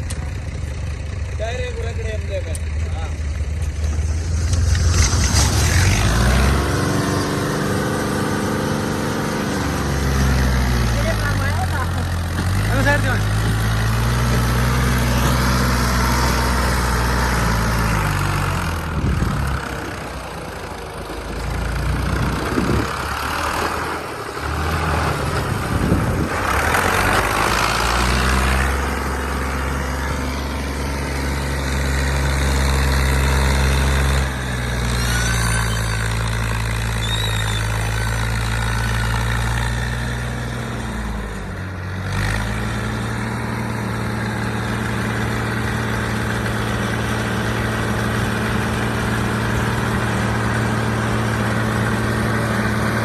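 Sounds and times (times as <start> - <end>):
large vehicle engine running: 0.0 - 53.0.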